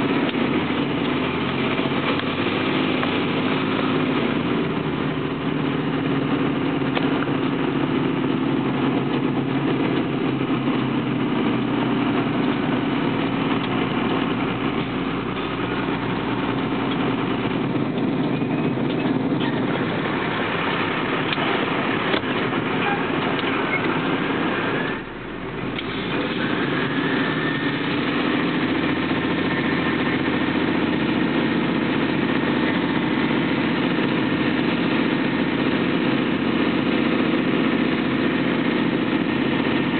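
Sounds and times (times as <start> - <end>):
large vehicle engine droning: 0.0 - 39.9.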